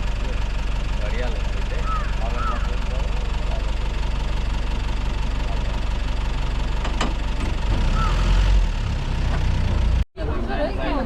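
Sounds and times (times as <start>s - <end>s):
jeep engine rumbling: 0.0s - 11.0s.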